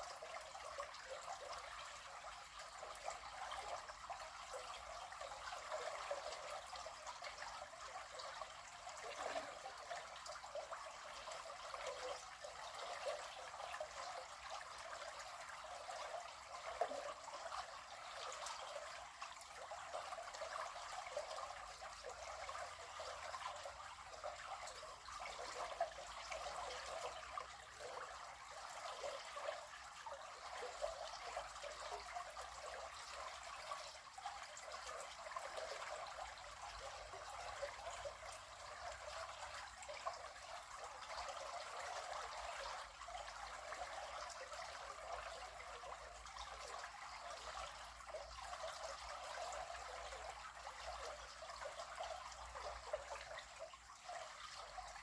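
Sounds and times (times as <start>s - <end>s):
water trickling over stones: 0.0s - 55.0s.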